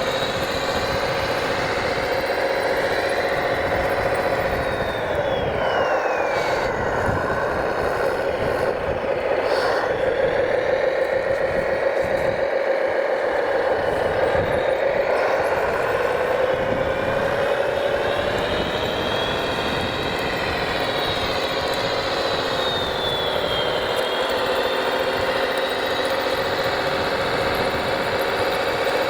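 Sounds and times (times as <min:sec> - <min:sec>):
electric motor whine: 0:00.0 - 0:29.0.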